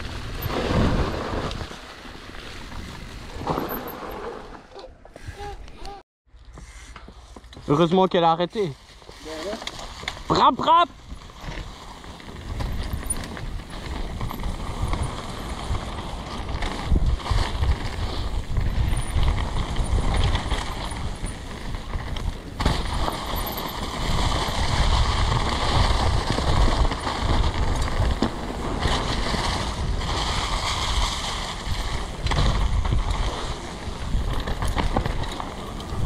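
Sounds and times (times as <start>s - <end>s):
bike tyres rolling over dry leaves: 0.0s - 4.8s, 7.2s - 36.0s
wind rumbling on microphone: 0.0s - 6.0s, 9.6s - 36.0s.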